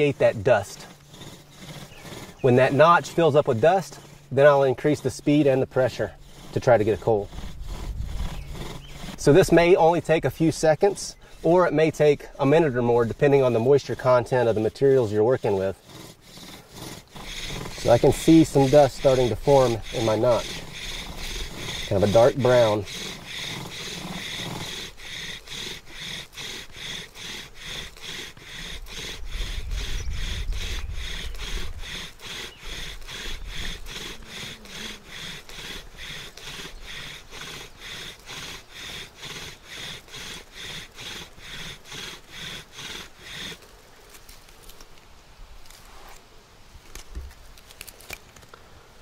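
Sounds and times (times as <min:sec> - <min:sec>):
bow drill squeaking wooden rasp: 0:00.0 - 0:44.9.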